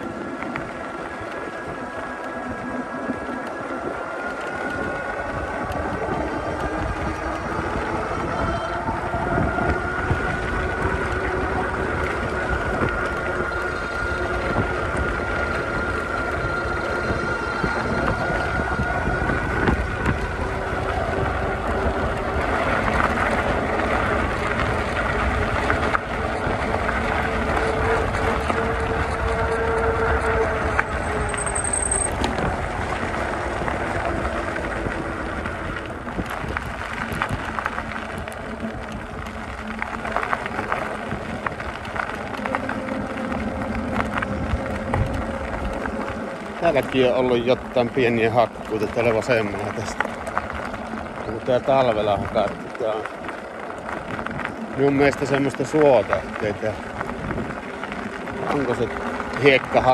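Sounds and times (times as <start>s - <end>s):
electric bike drive whine: 0.0s - 59.9s
wind buffeting microphone: 0.0s - 59.9s
fat tyres crunching on gravel: 6.0s - 59.9s.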